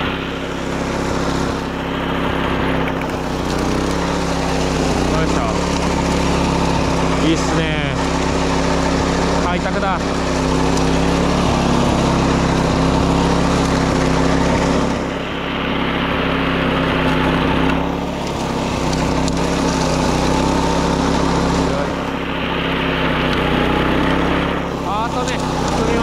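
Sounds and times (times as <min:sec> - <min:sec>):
mower engine running: 0:00.0 - 0:26.0.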